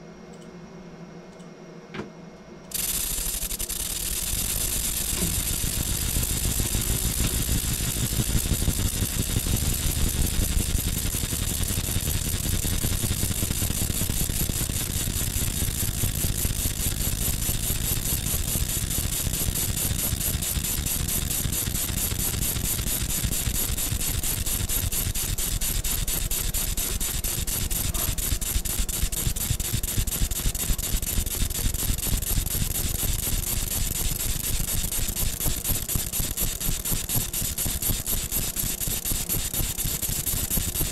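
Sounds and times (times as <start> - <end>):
laser engraver buzzing whir: 2.7 - 40.9.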